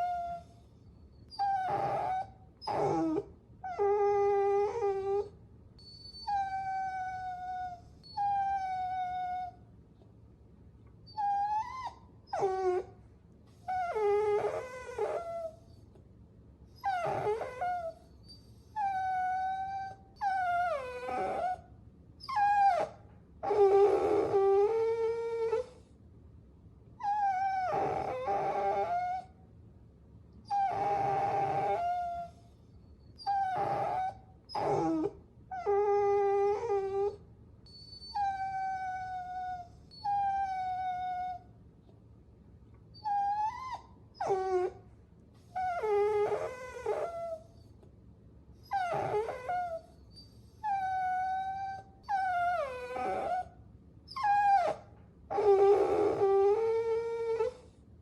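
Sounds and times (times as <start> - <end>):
puppies whining: 0.0 - 9.6, 11.1 - 12.9, 13.5 - 15.9, 16.8 - 21.6, 22.2 - 25.8, 27.0 - 29.3, 30.4 - 41.5, 42.9 - 44.8, 45.4 - 47.7, 48.6 - 57.7.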